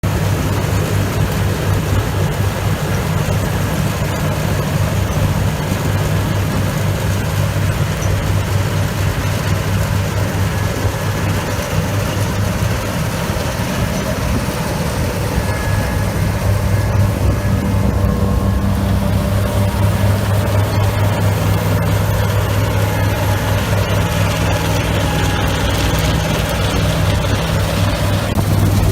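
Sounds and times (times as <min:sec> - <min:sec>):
combine harvester engine droning: 0:00.0 - 0:28.9.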